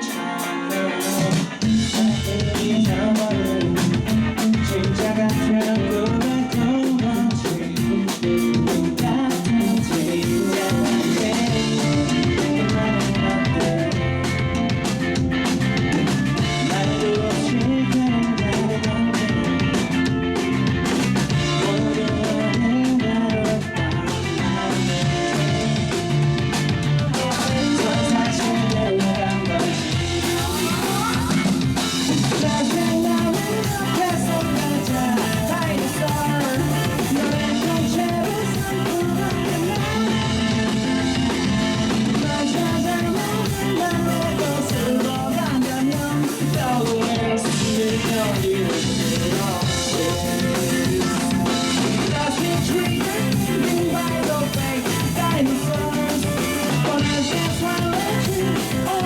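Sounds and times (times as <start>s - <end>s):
person singing: 0.0s - 14.8s, 15.8s - 59.0s
drum kit: 0.0s - 59.0s
electric guitar: 0.0s - 59.0s.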